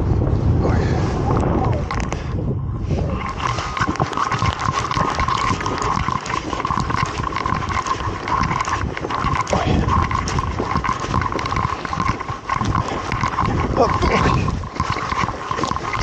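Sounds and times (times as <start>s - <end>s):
steady high hum: 0.0s - 16.0s
wind buffeting microphone: 0.0s - 16.0s.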